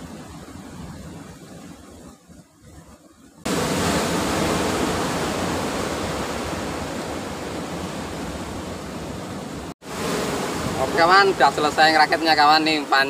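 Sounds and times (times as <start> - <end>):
sea surf breaking on rocks: 0.0 - 2.0, 3.4 - 13.0.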